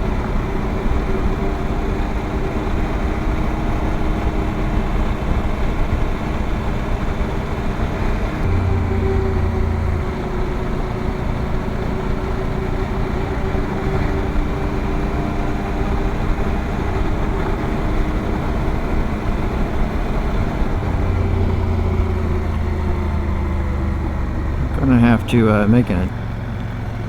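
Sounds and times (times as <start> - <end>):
motorcycle engine running: 0.0 - 24.8
road noise rush: 0.0 - 27.0.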